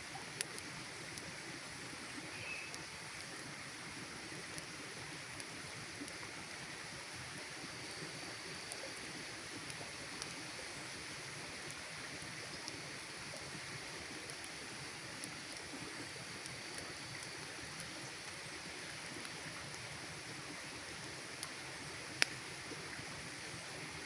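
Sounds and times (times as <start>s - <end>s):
campfire hissing: 0.0s - 24.0s
fire crackles and pops: 0.0s - 24.0s.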